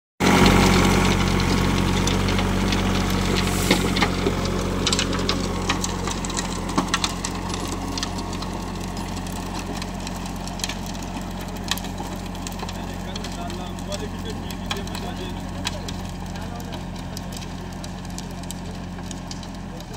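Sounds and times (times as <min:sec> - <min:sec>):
rotary tiller in dry soil: 0:00.2 - 0:19.9
tractor diesel engine running: 0:00.2 - 0:19.9
sharp clicks and knocks: 0:00.4 - 0:19.9.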